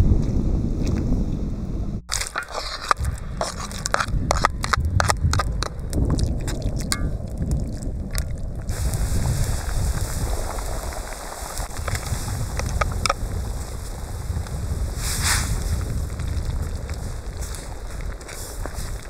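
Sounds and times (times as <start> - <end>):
wind rumble on microphone: 0.0 - 19.0
sharp crackles and scraping clicks: 2.1 - 19.0.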